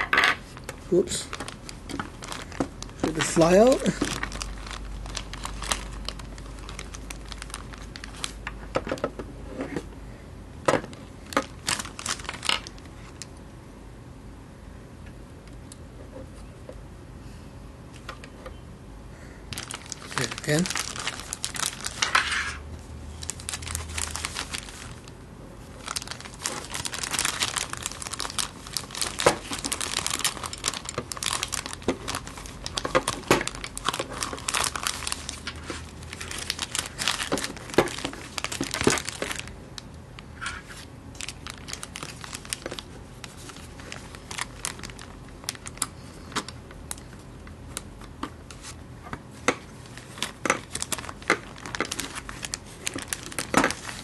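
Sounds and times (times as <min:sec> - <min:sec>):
plastic bag crinkling: 0:00.4 - 0:08.8, 0:10.9 - 0:13.3, 0:19.5 - 0:25.1, 0:25.7 - 0:54.0.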